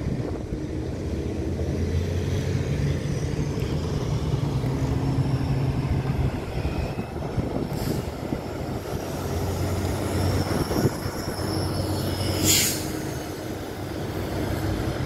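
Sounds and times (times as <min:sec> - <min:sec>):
road traffic engine rumble: 0:00.0 - 0:15.0.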